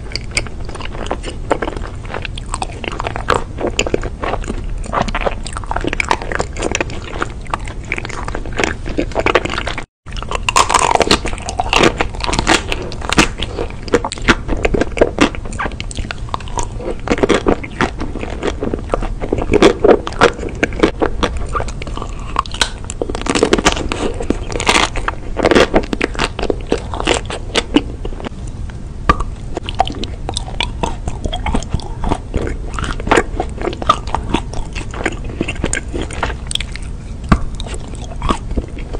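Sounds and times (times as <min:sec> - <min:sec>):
wet chewing mouth sounds: 0:00.0 - 0:28.5, 0:29.1 - 0:38.9
crunching chocolate coating: 0:00.0 - 0:38.9.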